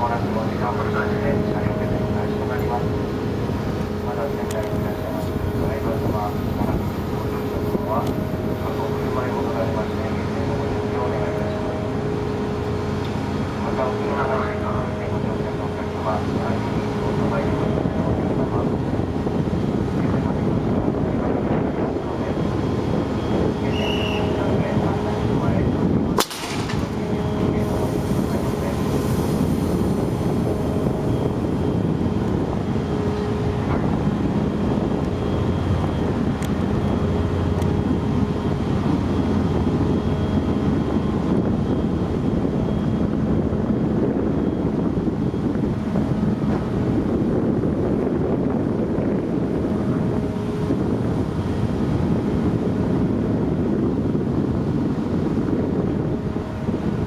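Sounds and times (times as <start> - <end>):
ferry machinery rumble: 0.0 - 57.0
wind buffeting microphone: 0.0 - 57.0.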